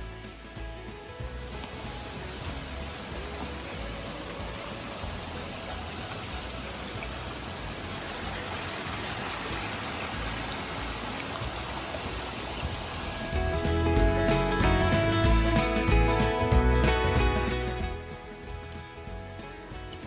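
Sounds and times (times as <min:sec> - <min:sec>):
mountain stream rushing: 0:00.0 - 0:18.7.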